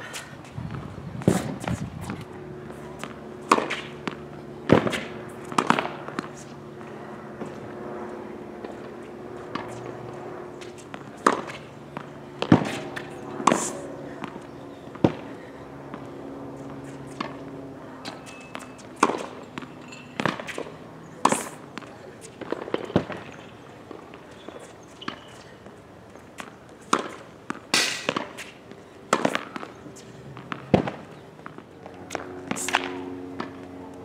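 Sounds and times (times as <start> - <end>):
racket hitting tennis ball: 0.4 - 7.7, 8.4 - 15.3, 15.9 - 33.8.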